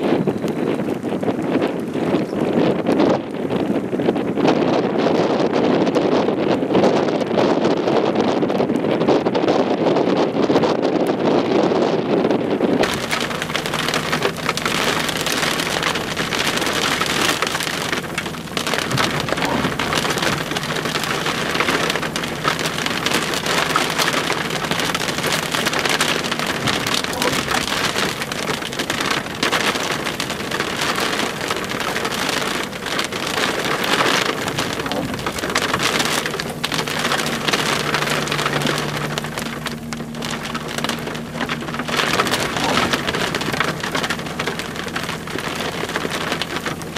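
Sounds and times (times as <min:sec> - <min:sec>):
rain falling loudly: 0:00.0 - 0:46.9.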